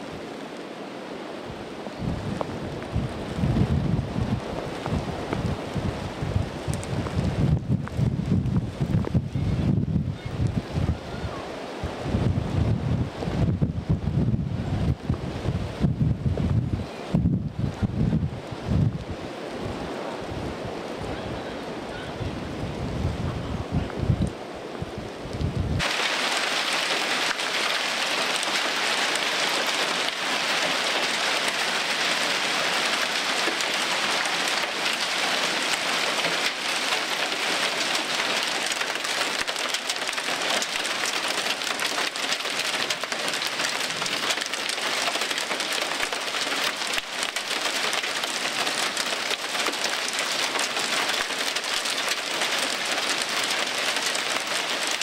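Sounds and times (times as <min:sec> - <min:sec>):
heavy rain and hail pelting: 0:00.0 - 0:55.0.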